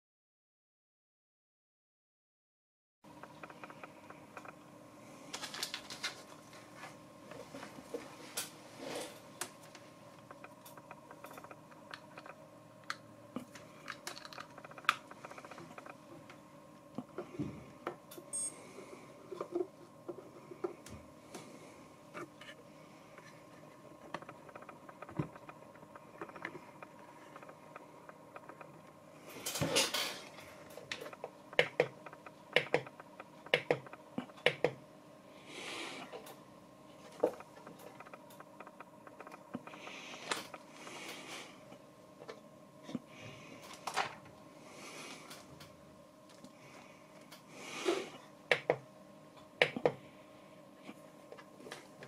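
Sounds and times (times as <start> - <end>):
faint steady hum: 3.1 - 52.0.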